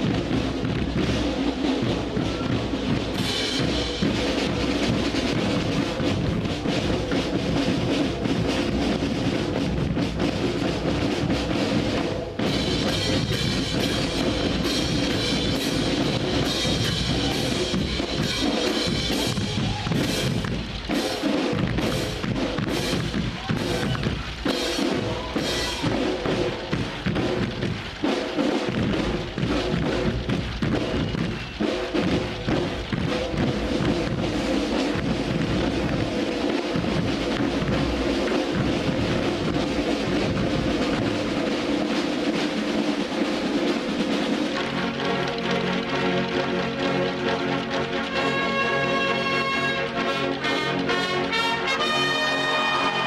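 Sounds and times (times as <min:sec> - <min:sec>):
military marching band: 0:00.0 - 0:53.0.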